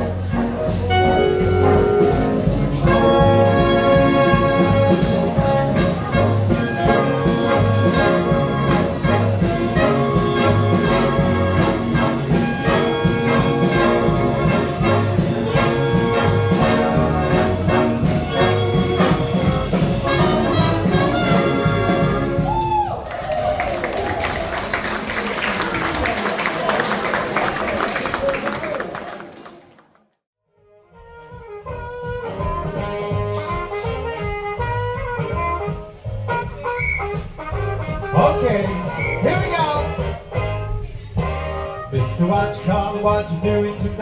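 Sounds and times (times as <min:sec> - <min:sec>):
brass jazz band music: 0:00.0 - 0:22.6, 0:30.6 - 0:44.0.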